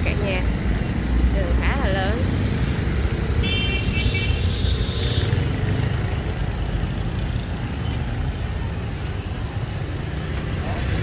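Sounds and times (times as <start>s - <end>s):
cars running on road: 0.0s - 11.0s
motorbikes running: 0.0s - 11.0s.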